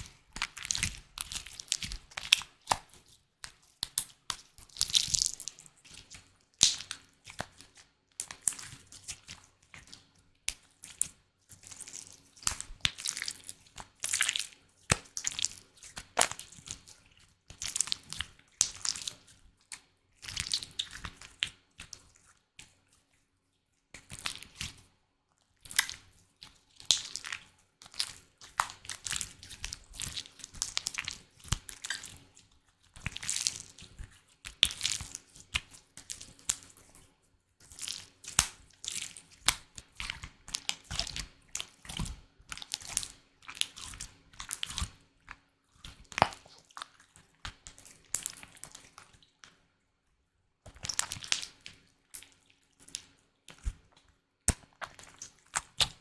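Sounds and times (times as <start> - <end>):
wet crackles and squishes: 0.0 - 24.9, 25.6 - 37.0, 37.6 - 49.7, 50.6 - 56.0.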